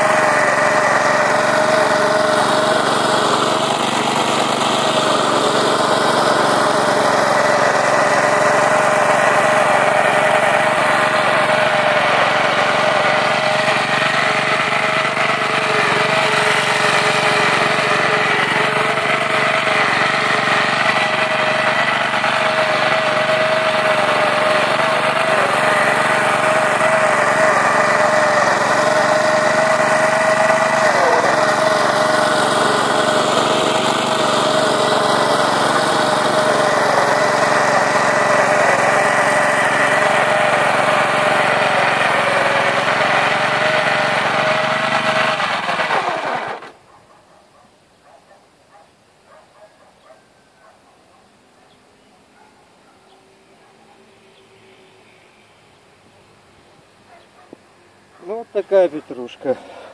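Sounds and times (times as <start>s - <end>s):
rotary cultivator engine running: 0.0s - 46.9s, 58.2s - 59.9s.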